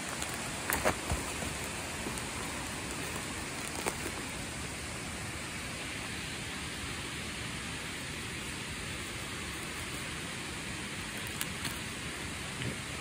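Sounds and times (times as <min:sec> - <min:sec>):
creek rushing: 0:00.0 - 0:13.0.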